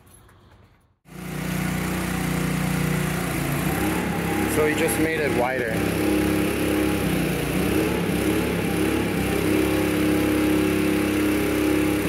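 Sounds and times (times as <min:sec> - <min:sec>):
boat lift engine running: 0:01.1 - 0:12.0.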